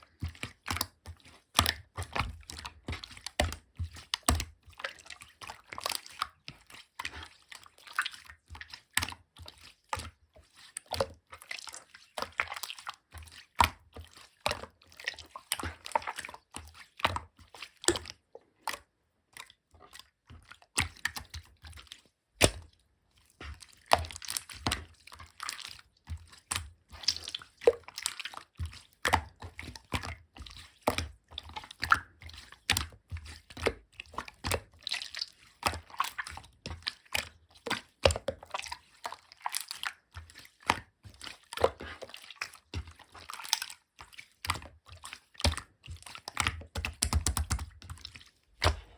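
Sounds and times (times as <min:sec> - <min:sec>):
slime squelching by hand: 0:00.1 - 0:48.9.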